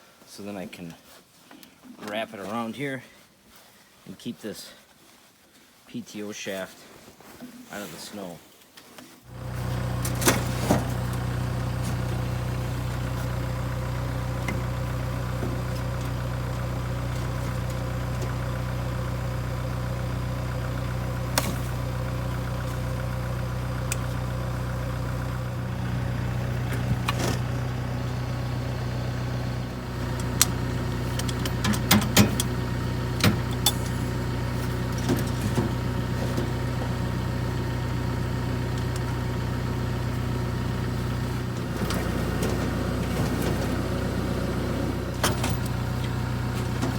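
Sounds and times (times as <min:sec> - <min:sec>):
tractor engine running: 0:09.3 - 0:46.9.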